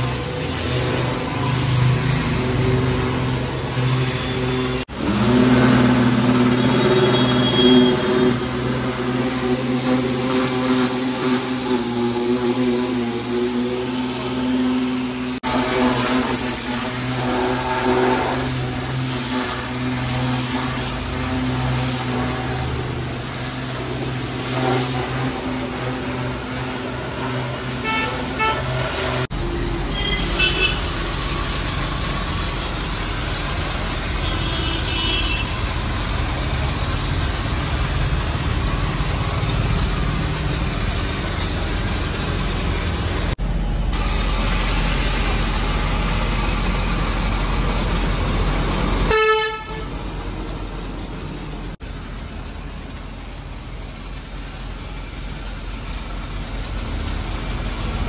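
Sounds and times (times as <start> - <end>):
pump motor hum: 0.0 - 29.2, 30.2 - 55.8
air foam spray gun hissing: 0.0 - 29.3, 30.0 - 58.0
pressure washer jet spraying: 0.0 - 58.0.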